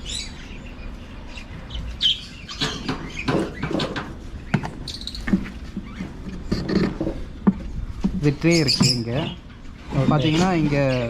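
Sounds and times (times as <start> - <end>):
parrots chirping: 0.0 - 6.9, 8.3 - 11.0.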